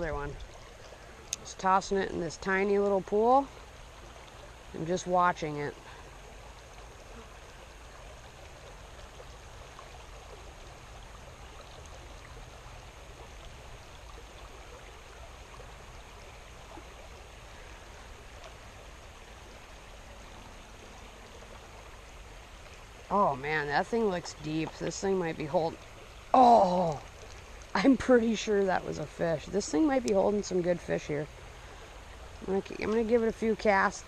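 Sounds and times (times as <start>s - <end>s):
small stream flowing: 0.0s - 34.0s.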